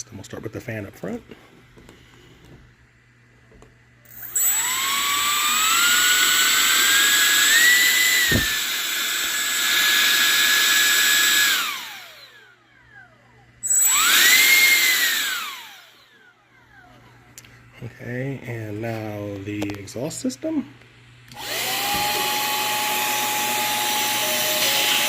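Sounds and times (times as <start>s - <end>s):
electric fan whining: 0.0s - 25.0s.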